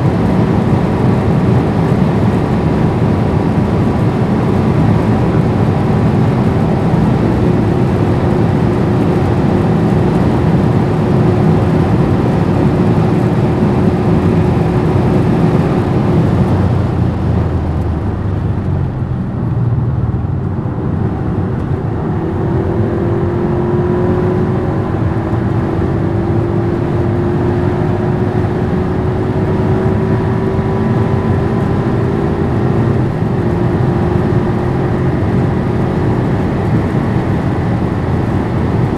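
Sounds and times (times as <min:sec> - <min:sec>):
car engine at high speed: 0:00.0 - 0:38.9
wind noise: 0:00.0 - 0:38.9.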